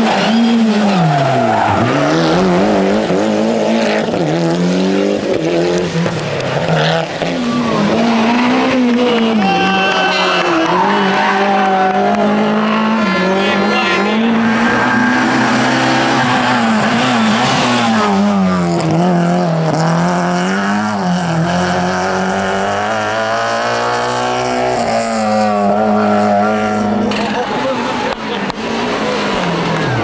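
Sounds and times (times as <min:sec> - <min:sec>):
rally car engines revving high: 0:00.0 - 0:30.0.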